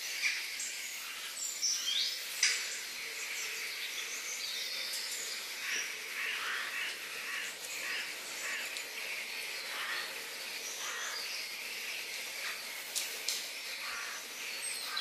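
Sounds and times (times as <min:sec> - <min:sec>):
background hiss: 0:00.0 - 0:15.0
birds chirping: 0:00.0 - 0:15.0
insects buzzing: 0:00.0 - 0:15.0.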